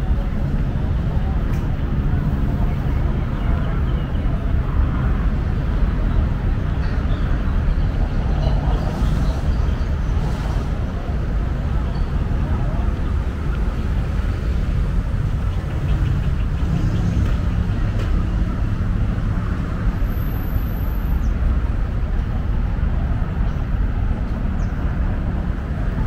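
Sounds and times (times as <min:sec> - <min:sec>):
city ambience rumble: 0:00.0 - 0:26.0.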